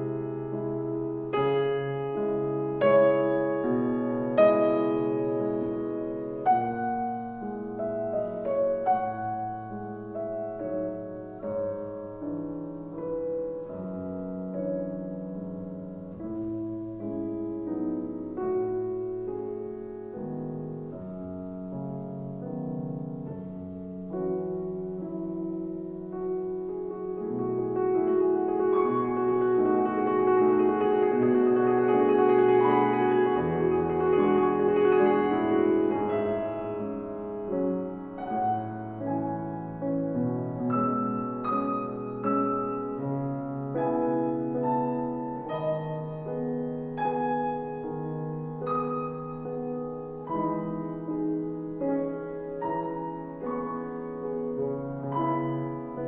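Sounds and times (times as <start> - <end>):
classical grand piano playing: 0.0 - 56.0.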